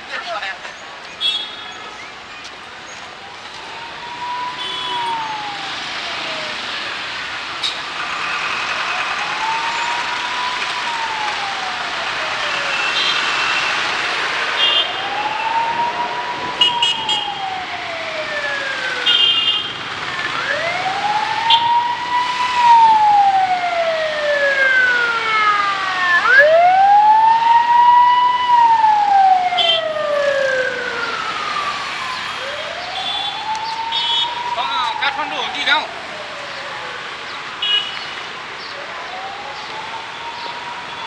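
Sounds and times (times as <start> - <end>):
emergency siren wailing: 3.1 - 41.0.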